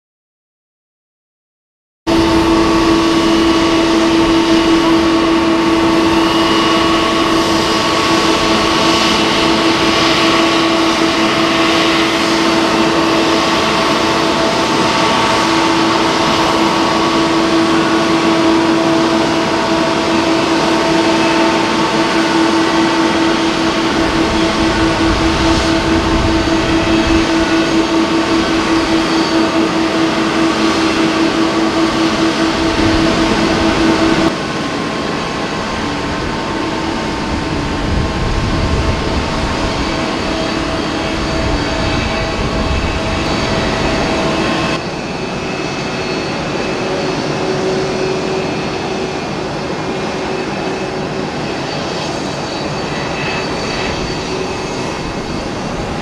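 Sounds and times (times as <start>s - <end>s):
jet engines whining: 2.1s - 56.0s.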